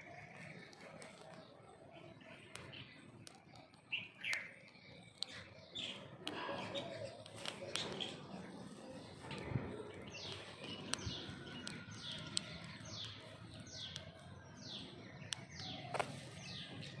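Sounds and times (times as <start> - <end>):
sharp clicks: 0.2 - 17.0.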